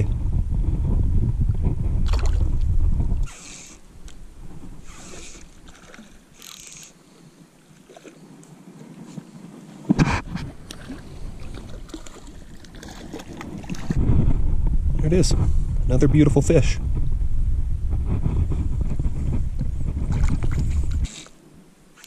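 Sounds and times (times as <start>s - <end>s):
wind buffeting microphone: 0.0s - 6.4s, 7.0s - 21.7s.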